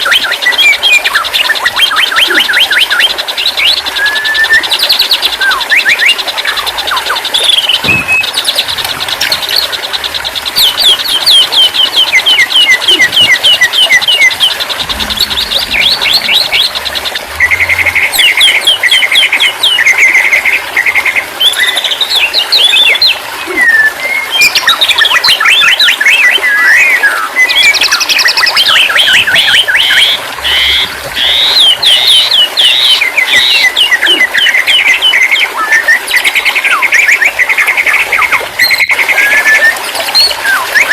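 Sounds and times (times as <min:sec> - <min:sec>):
bird song with trills and whistles: 0:00.0 - 0:40.9.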